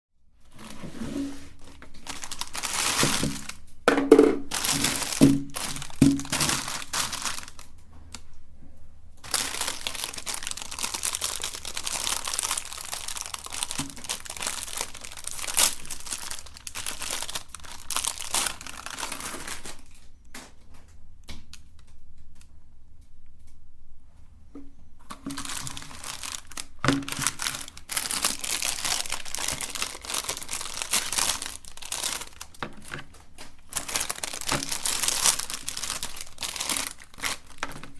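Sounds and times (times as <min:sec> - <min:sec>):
plastic wrappers crinkling and tearing: 0:00.4 - 0:08.3, 0:09.2 - 0:22.4, 0:25.0 - 0:37.9.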